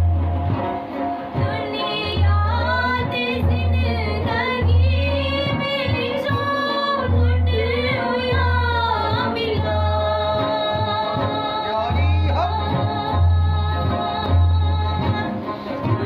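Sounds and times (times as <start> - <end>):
plucked rubab: 0.0 - 16.0
woman singing: 1.4 - 11.9, 12.5 - 16.0.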